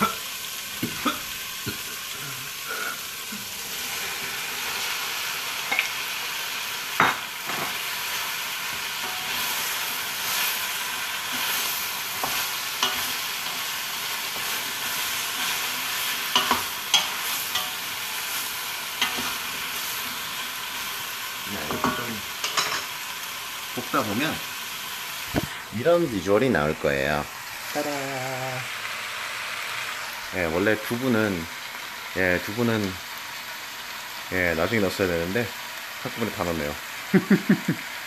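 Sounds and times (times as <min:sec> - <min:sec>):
oil sizzling in a pan: 0:00.0 - 0:38.0.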